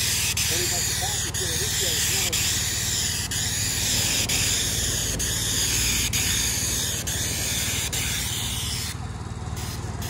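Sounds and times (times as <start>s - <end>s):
spray wand hissing: 0.0s - 9.0s, 9.6s - 10.0s
steady low drone: 0.0s - 10.0s.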